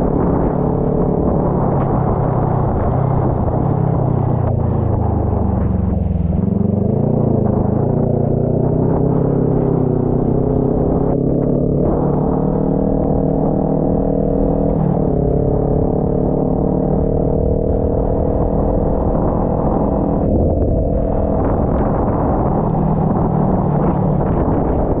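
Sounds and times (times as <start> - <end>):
motorcycle engine running: 0.0 - 25.0
wind noise: 0.0 - 25.0.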